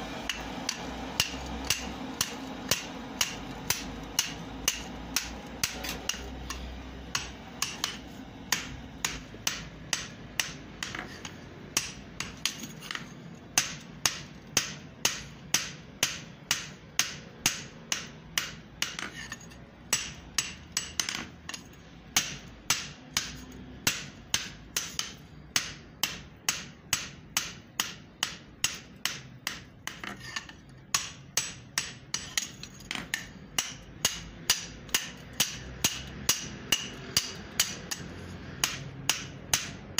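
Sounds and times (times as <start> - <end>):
hammer striking steel on anvil: 0.2 - 39.9.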